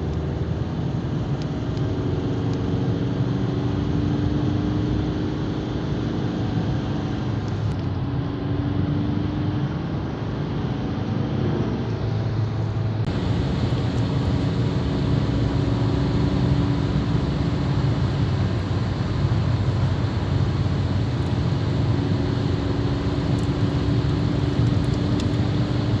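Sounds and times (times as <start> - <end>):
diesel car engine accelerating: 0.0 - 26.0.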